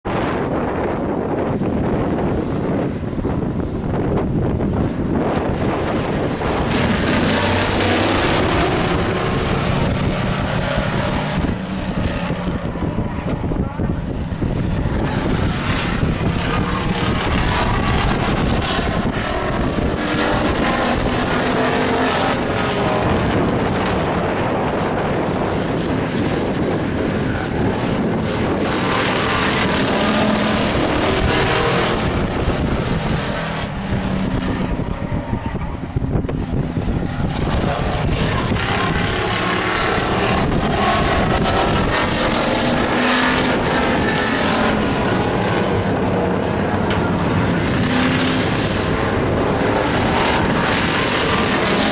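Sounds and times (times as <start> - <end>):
race truck engines passing: 0.1 - 51.9.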